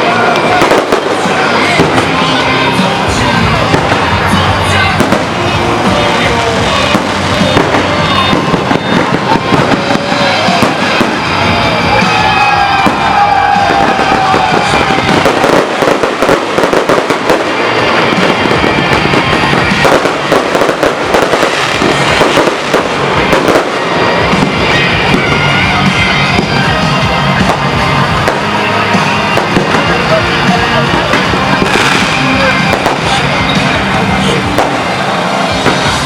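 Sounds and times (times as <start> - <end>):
fireworks crackling: 0.0 - 36.0
music playing: 0.0 - 36.0.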